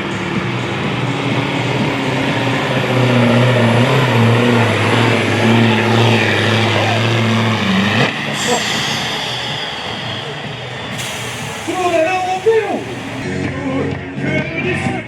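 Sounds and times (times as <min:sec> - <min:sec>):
truck engine running flat out: 0:00.0 - 0:13.3.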